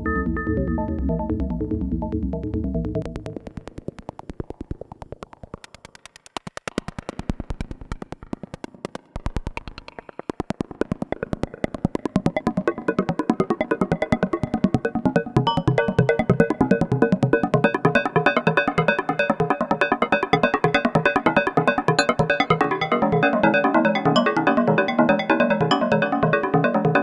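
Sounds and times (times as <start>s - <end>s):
synthesizer notes with delay: 0.0s - 5.6s, 7.6s - 27.0s.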